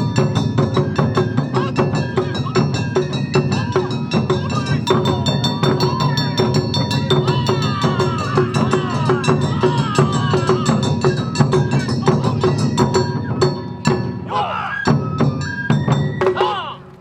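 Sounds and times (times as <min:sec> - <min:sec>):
struck percussion beat: 0:00.0 - 0:16.8.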